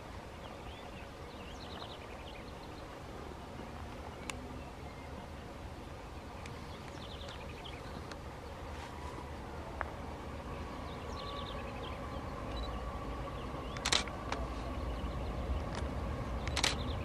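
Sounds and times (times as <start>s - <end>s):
distant diesel locomotive hum: 0.0s - 17.0s.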